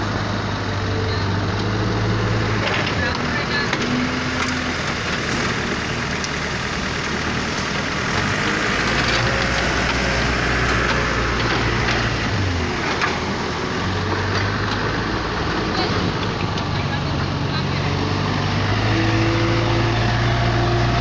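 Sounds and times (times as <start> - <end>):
loader engine running: 0.0 - 21.0.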